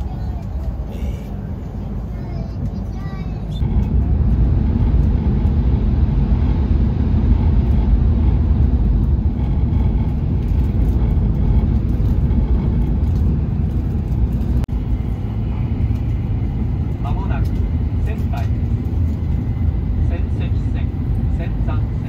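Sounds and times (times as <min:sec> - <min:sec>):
train cabin rumble: 0:00.0 - 0:22.0.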